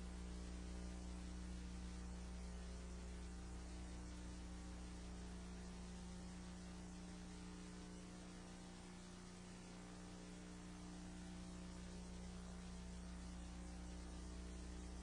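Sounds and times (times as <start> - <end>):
faint electrical mains hum: 0.0 - 15.0
low hiss: 0.0 - 15.0.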